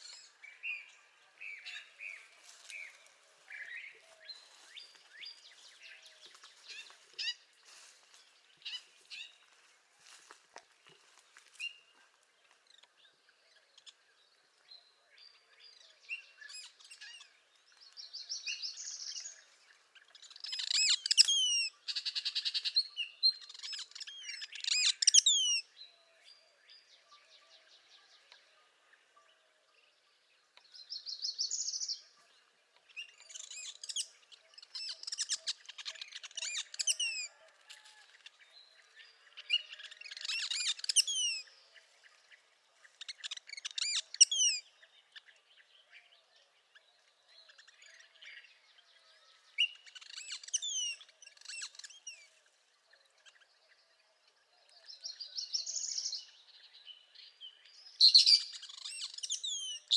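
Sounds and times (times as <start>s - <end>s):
bird singing song phrases: 0.0s - 9.5s, 11.3s - 59.9s
soft bird chirps: 0.0s - 59.9s.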